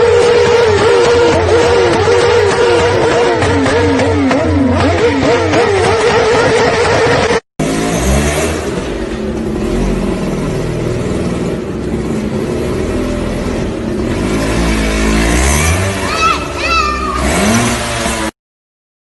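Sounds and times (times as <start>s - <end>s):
vehicle engine revving: 0.0s - 18.4s.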